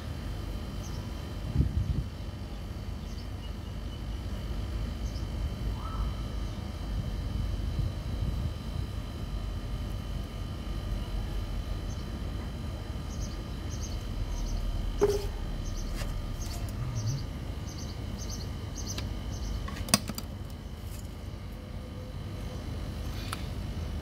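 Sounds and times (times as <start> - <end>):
steady low rumble: 0.0 - 19.6.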